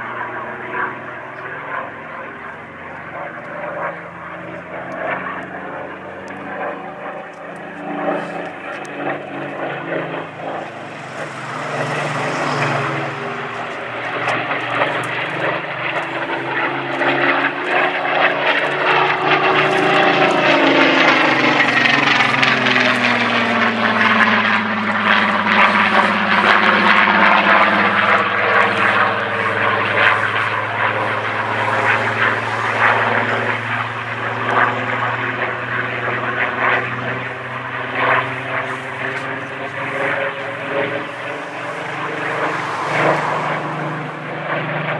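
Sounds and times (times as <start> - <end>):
propeller aircraft engine passing: 0.0 - 44.9.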